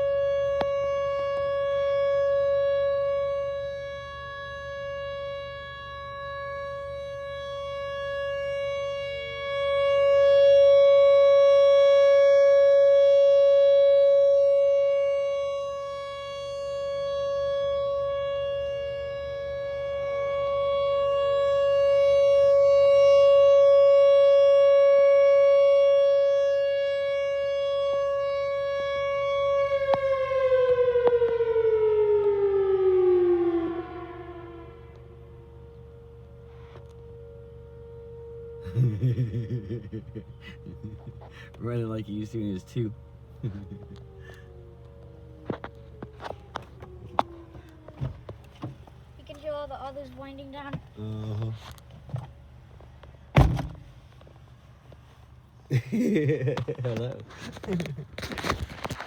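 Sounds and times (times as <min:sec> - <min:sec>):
outdoor warning siren: 0:00.0 - 0:59.0.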